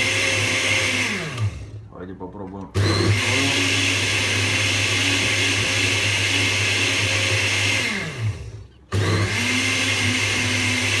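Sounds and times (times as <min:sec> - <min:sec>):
blender running: 0:00.0 - 0:01.8, 0:02.8 - 0:11.0.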